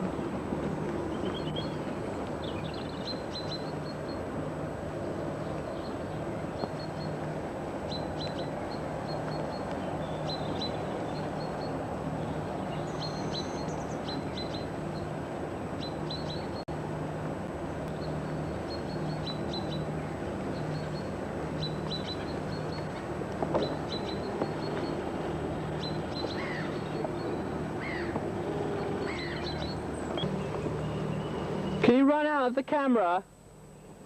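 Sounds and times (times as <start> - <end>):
outdoor background noise: 0.0 - 34.0
small birds chirping: 0.9 - 4.3, 5.0 - 16.7, 17.8 - 32.0.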